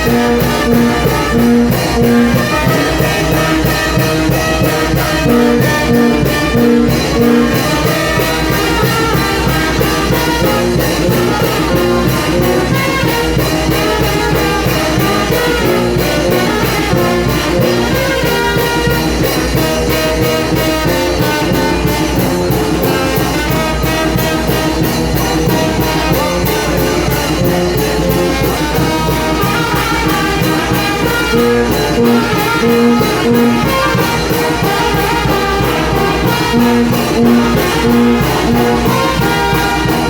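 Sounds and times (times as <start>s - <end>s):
drum and cymbal beat: 0.0s - 40.0s
trumpets and trombones: 0.0s - 40.0s.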